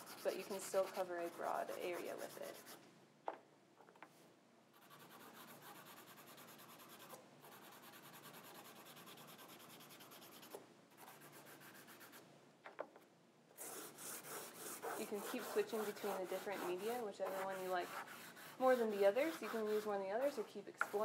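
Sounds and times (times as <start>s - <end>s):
crayon scratching on paper: 0.0s - 2.8s, 4.8s - 12.2s, 13.6s - 21.0s.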